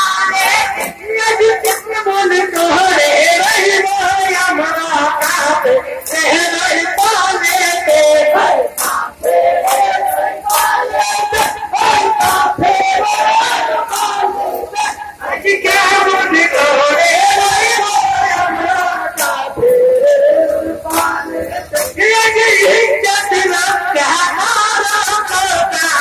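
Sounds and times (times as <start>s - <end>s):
crowd chanting and singing: 0.0s - 26.0s
sharp percussive hits: 1.6s - 15.0s, 15.7s - 23.6s.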